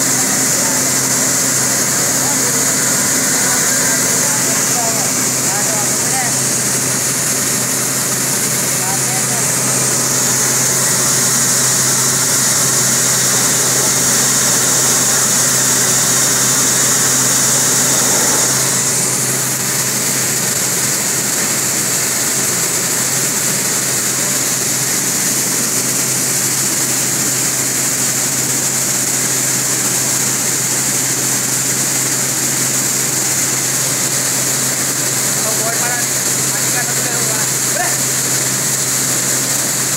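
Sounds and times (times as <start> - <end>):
separator fans humming and hissing: 0.0 - 39.9.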